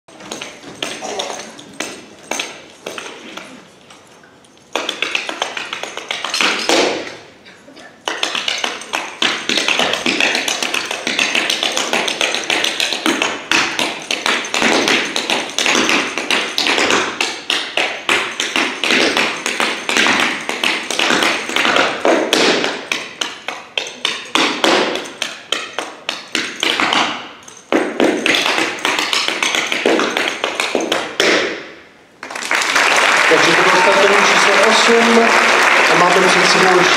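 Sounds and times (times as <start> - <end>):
tap shoes on dance floor: 0.1 - 3.4, 4.7 - 7.2, 8.0 - 36.9.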